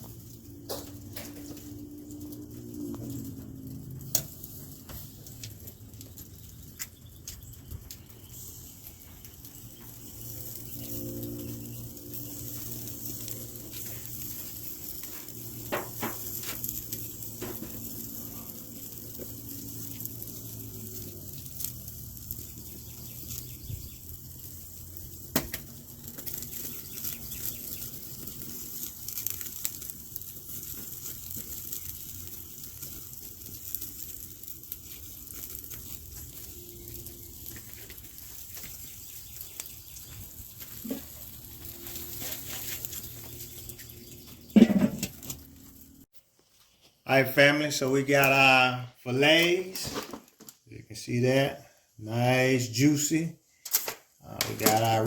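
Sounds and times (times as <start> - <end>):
meat sizzling on a grill: 0.0 - 46.1.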